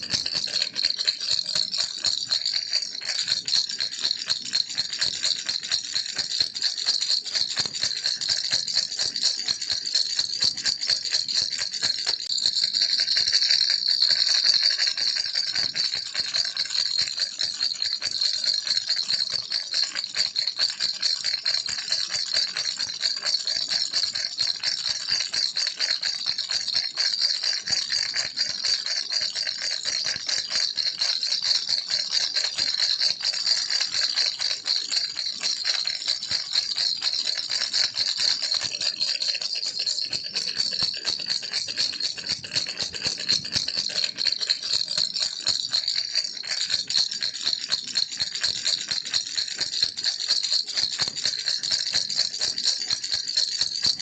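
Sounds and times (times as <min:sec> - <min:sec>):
baby rattle shaking: 0:00.0 - 0:54.0.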